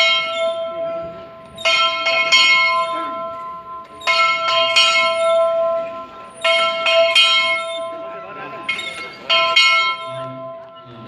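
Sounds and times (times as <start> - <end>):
church bell ringing: 0.0 - 11.0.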